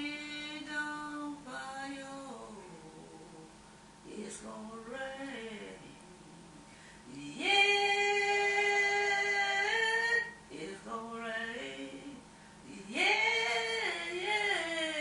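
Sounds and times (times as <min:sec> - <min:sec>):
person singing gospel unaccompanied: 0:00.0 - 0:15.0.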